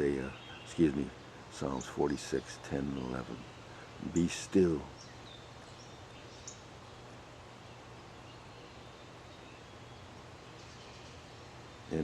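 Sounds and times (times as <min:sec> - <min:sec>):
faint songbird chirps: 0:00.0 - 0:12.0
low outdoor hiss: 0:00.0 - 0:12.0.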